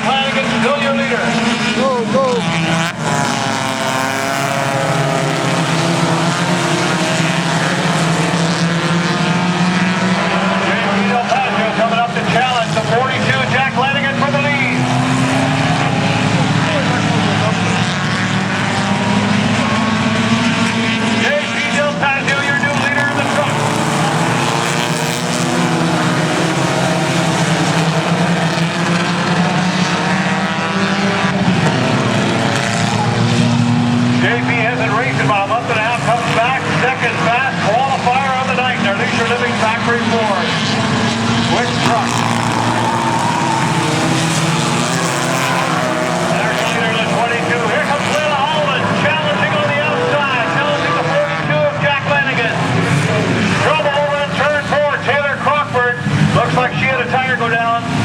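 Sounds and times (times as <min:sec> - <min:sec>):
race car engines running hard: 0:00.0 - 0:58.0.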